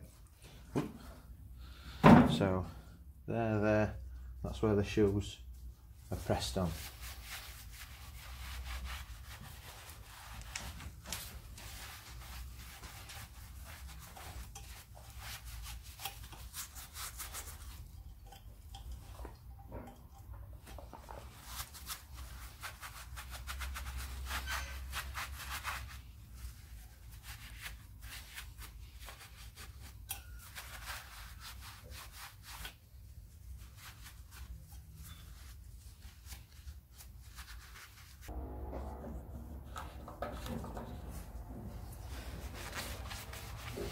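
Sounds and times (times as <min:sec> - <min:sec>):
cloth rag rubbing metal: 0:05.3 - 0:43.9.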